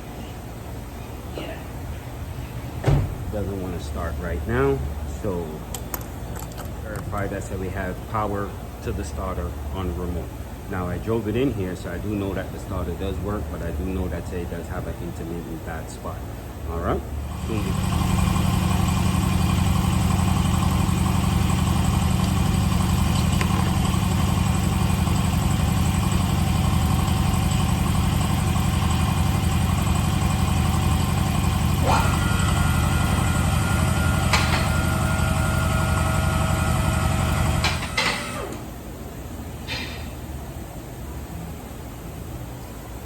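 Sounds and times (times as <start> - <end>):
car engine idling: 2.2 - 39.3.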